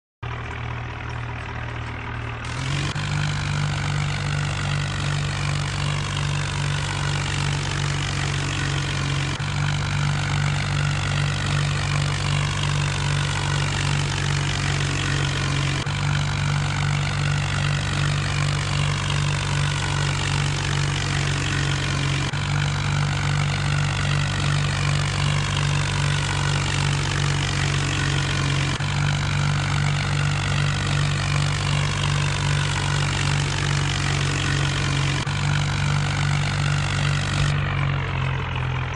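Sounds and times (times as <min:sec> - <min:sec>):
tractor diesel engine running: 0:00.2 - 0:38.9.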